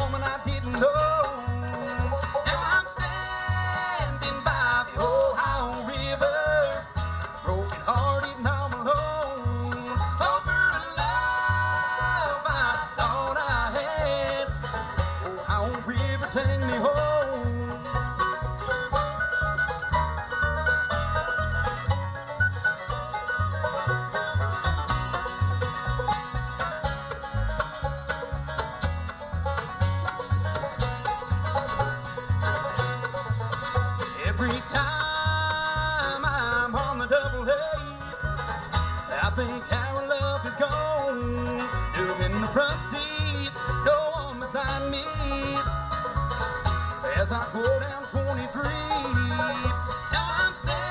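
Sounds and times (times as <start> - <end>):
bluegrass band playing: 0.0 - 50.9
upright bass plucking: 0.0 - 50.9.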